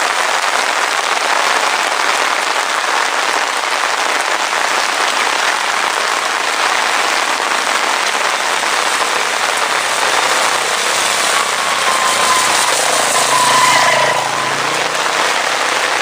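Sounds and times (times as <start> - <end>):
heavy rain splashing: 0.0 - 16.0.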